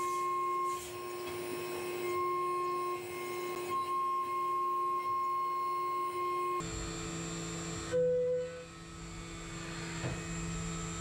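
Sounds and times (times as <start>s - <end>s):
milling machine high whine: 0.0s - 11.0s.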